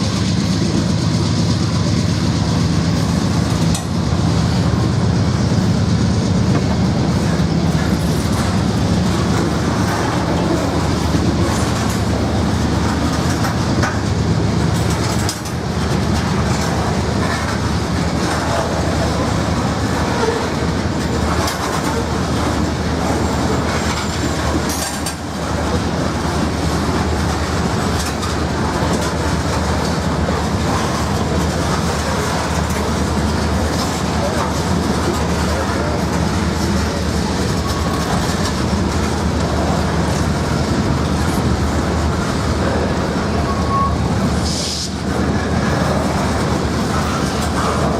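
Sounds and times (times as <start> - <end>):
deep engine drone: 0.0 - 47.9
train wheels rumbling on rail: 0.0 - 47.9.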